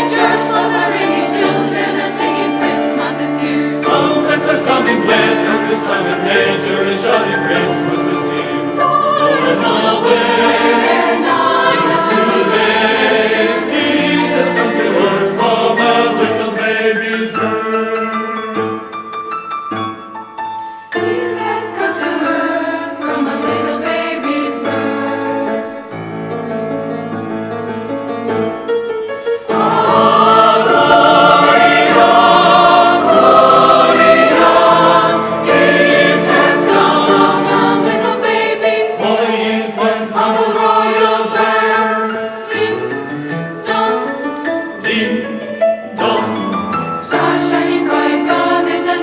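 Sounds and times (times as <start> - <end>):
choir singing a carol: 0.0 - 19.0, 20.8 - 26.4, 29.2 - 49.0.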